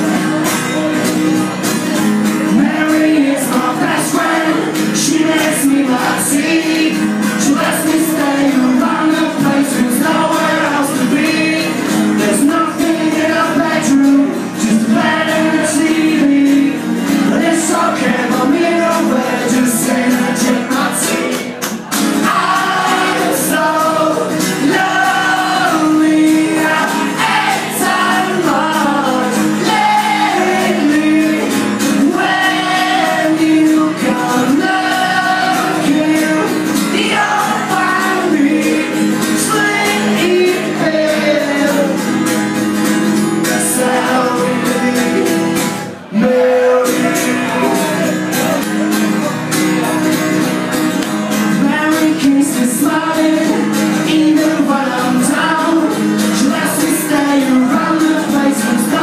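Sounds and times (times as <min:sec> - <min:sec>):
man singing: 0:00.0 - 0:21.6, 0:22.2 - 0:42.4, 0:43.2 - 0:48.6, 0:51.3 - 0:59.0
strummed acoustic guitar: 0:00.0 - 0:59.0.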